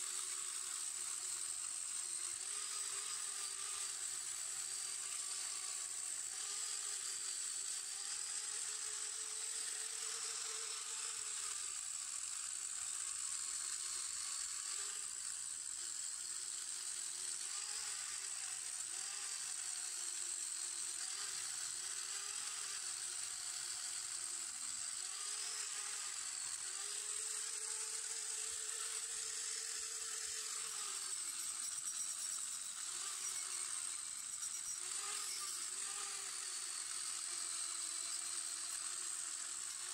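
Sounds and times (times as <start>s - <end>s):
angle grinder on metal: 0.0s - 39.9s.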